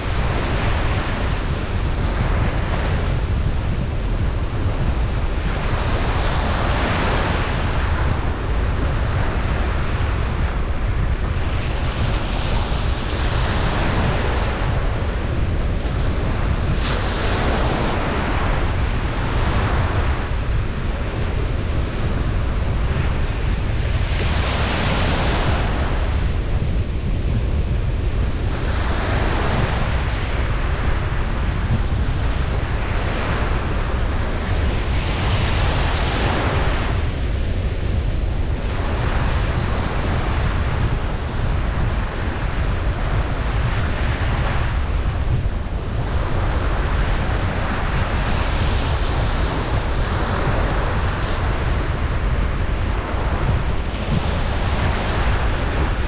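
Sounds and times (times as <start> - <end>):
low surf rumble: 0.0 - 56.0
ocean waves washing in: 0.0 - 56.0.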